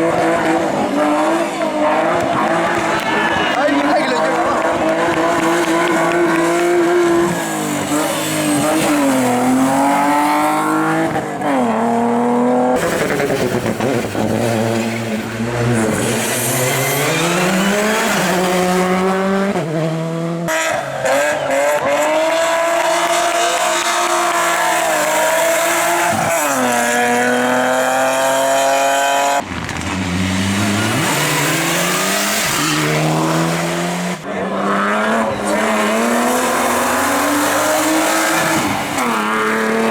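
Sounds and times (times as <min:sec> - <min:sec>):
race car engines at full throttle: 0:00.0 - 0:39.9.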